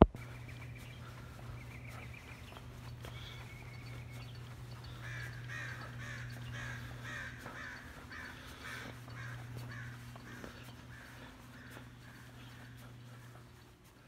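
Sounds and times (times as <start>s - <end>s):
steady low hum: 0.0s - 14.0s
crow cawing: 1.0s - 13.7s.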